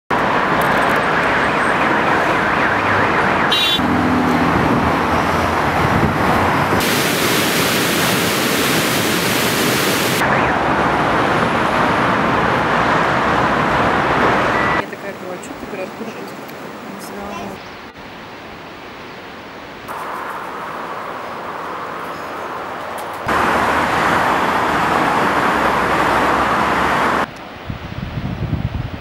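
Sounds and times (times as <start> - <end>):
city road traffic: 0.1 - 29.0.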